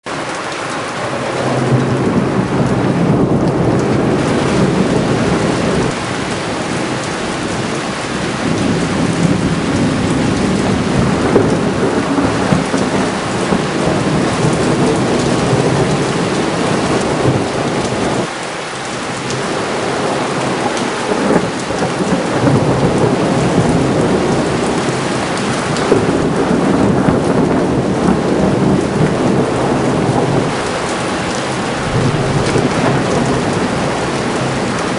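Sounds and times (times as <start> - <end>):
steady rain: 0.0 - 34.9
rolling thunder: 1.0 - 18.3, 19.0 - 34.9.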